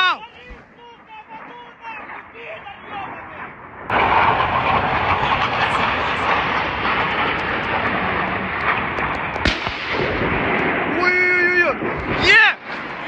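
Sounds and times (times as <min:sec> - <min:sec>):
jet engines flying low past: 0:00.0 - 0:13.0
sharp crack: 0:00.0 - 0:13.0.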